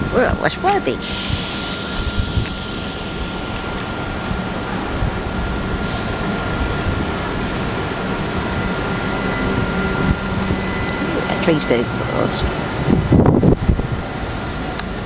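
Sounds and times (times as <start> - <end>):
electric train rumble: 0.0 - 15.0
thin constant whine: 0.0 - 15.0.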